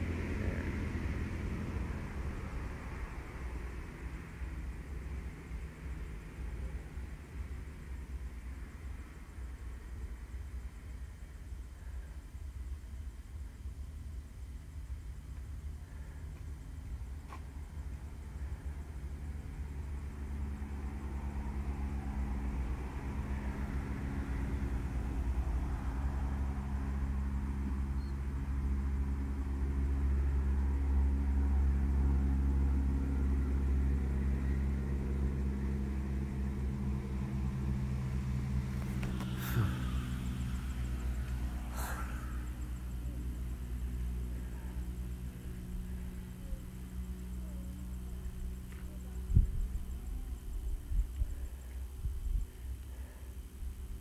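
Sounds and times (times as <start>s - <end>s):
low mechanical rumble: 0.0s - 54.0s.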